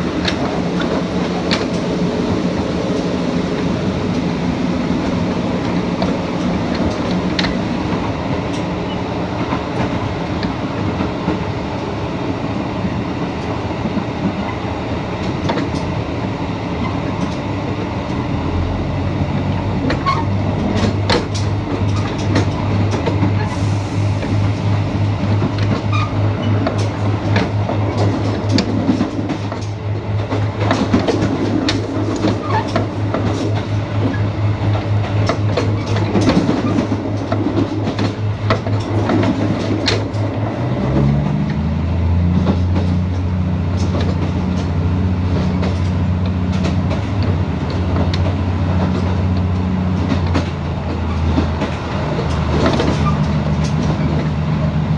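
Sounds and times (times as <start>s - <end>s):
rail joint clicks: 0.0s - 54.9s
train wheels rumbling on rail: 0.0s - 54.9s.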